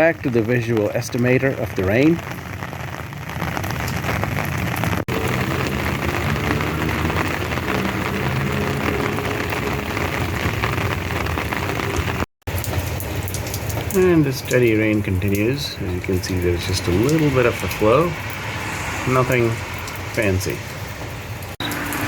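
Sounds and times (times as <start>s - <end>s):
rain pattering on wet ground: 0.0s - 22.0s.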